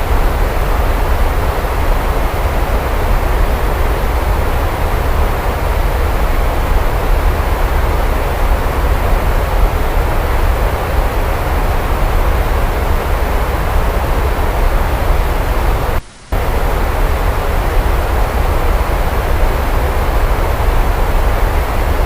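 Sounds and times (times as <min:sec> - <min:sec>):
loud rain: 0:00.0 - 0:22.0.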